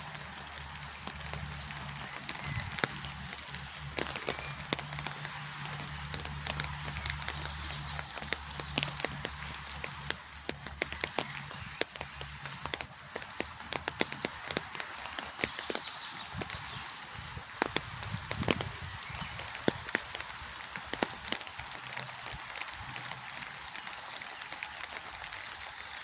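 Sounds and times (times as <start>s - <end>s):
rain falling: 0.0s - 26.0s
raindrops tapping: 0.0s - 26.0s.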